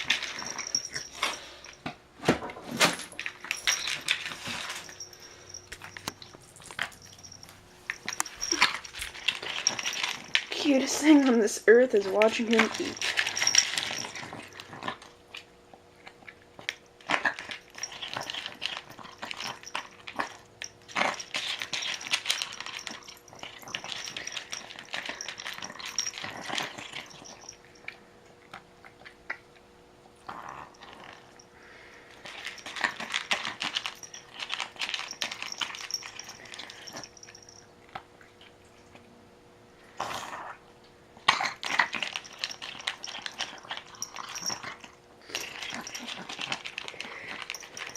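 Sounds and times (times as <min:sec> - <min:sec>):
pet chewing and clicking: 0:03.2 - 0:39.1, 0:41.2 - 0:47.9.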